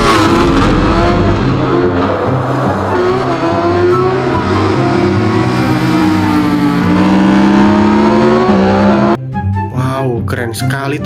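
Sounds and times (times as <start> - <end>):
racing engine at high revs: 0.0 - 9.2.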